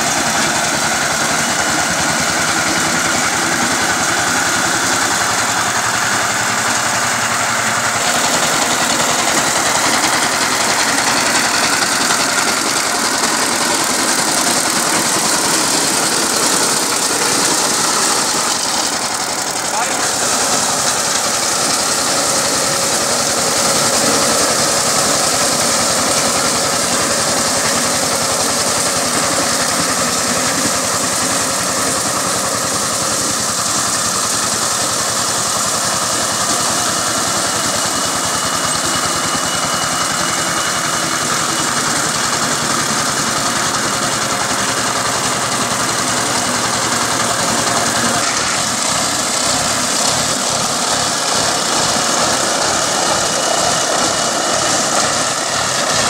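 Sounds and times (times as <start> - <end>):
diesel engine running: 0.0 - 56.0
rotary tiller working ground: 0.0 - 56.0.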